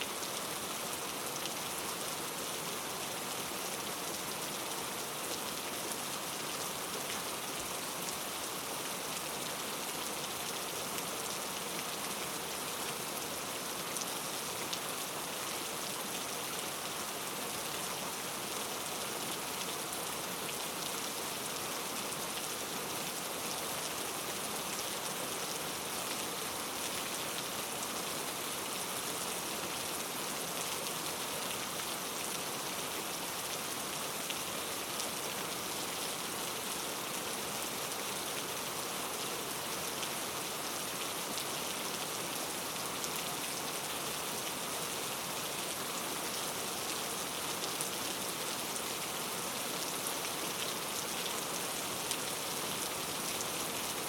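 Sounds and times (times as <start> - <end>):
rain pattering on a surface: 0.1 - 54.0.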